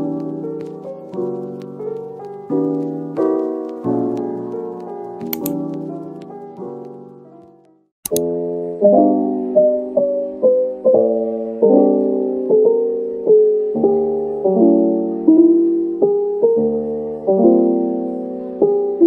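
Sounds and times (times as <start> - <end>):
soft slow piano piece: 0.0 - 19.0.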